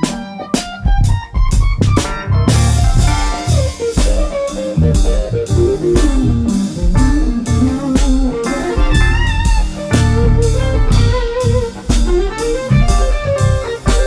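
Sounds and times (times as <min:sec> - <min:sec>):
band playing instrumental: 0:00.0 - 0:14.0.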